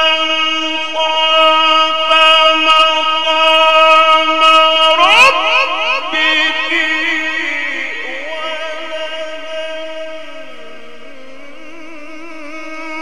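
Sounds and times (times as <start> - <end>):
man chanting with echo: 0.0 - 13.0.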